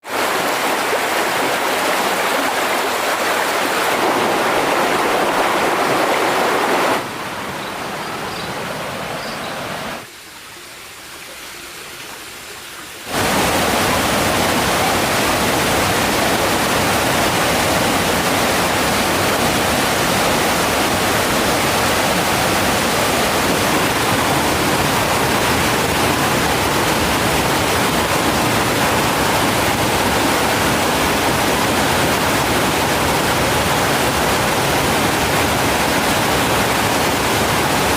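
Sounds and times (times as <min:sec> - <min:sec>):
rushing stream water: 0:00.0 - 0:37.9.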